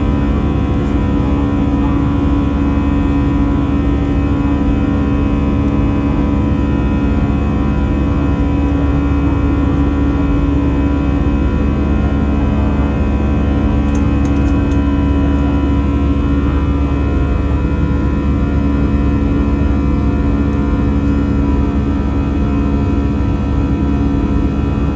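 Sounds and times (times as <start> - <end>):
jet engine drone in cabin: 0.0 - 24.9.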